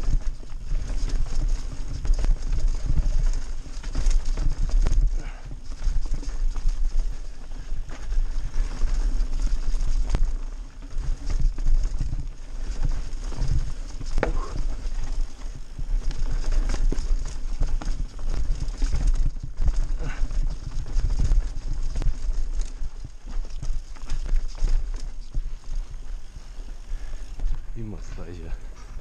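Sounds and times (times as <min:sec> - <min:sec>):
bike rattling over stones: 0:00.0 - 0:29.0
tyres crunching on dirt: 0:00.0 - 0:29.0
wind rumble on microphone: 0:00.0 - 0:29.0.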